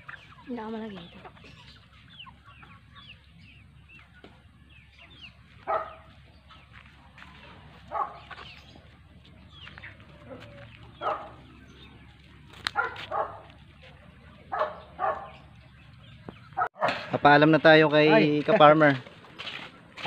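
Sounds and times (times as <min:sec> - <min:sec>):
chickens peeping: 0:00.0 - 0:20.0.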